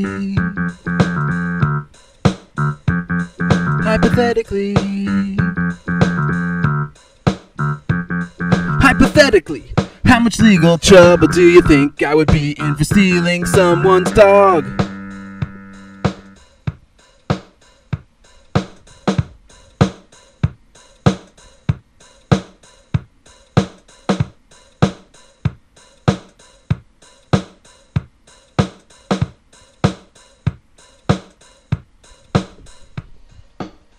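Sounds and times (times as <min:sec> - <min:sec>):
drum beat kick and snare: 0:00.0 - 0:33.9.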